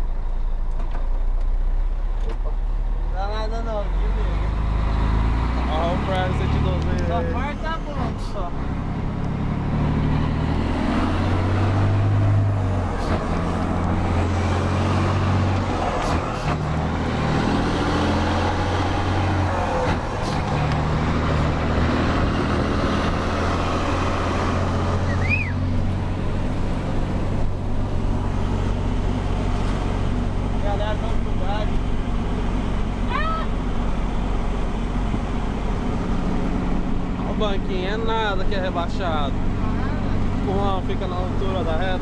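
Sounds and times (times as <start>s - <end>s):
truck diesel engine drone: 0.0s - 42.0s.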